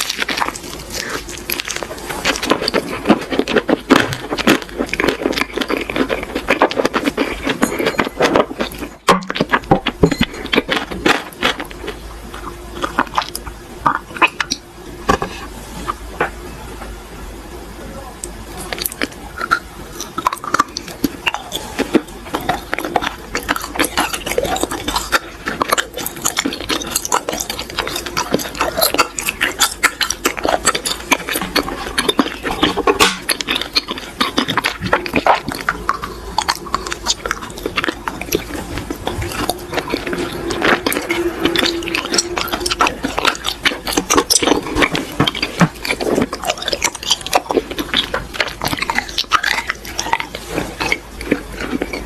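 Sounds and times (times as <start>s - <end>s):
crunching and chewing cookies: 0.0s - 17.1s, 17.9s - 52.0s.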